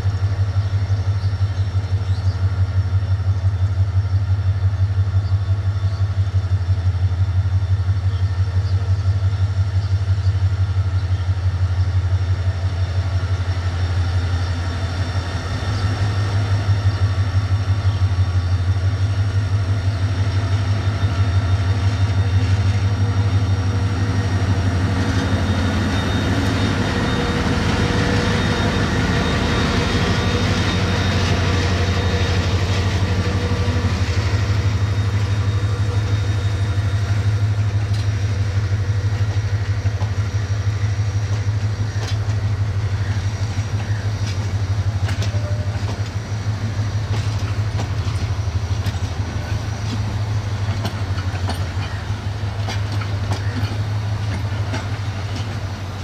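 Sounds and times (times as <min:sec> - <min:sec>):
diesel locomotive engine throbbing: 0:00.0 - 0:56.0
train coaches rolling past: 0:00.0 - 0:56.0.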